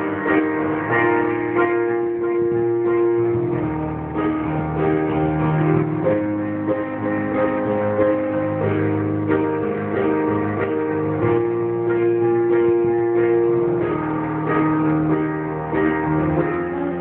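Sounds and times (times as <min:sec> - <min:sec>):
guitar strummed: 0:00.0 - 0:17.0
long held notes: 0:00.0 - 0:17.0.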